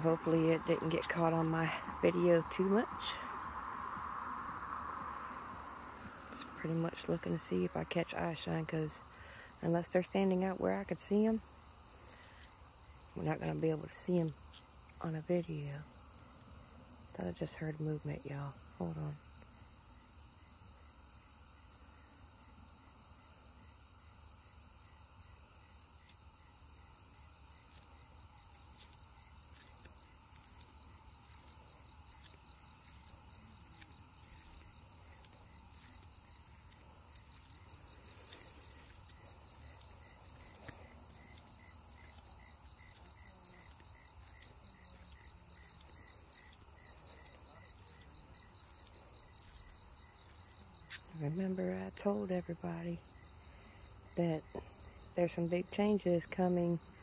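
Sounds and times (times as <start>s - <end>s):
night insects chirping: 0.0s - 57.0s.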